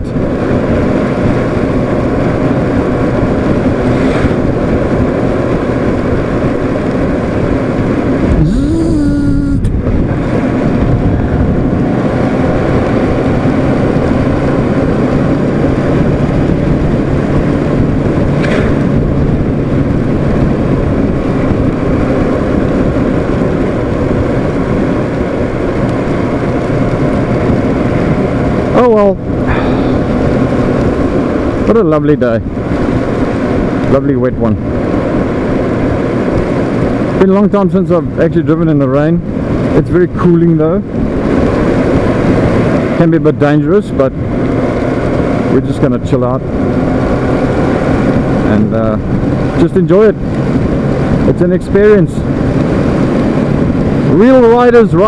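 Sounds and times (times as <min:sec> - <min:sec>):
motorcycle engine hum: 0:00.0 - 0:55.0
wind rush: 0:00.0 - 0:55.0.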